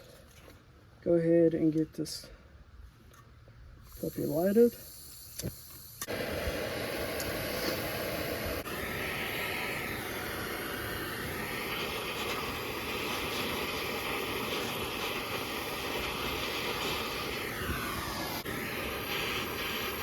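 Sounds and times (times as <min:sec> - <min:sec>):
torch flame hissing: 0:03.9 - 0:20.0.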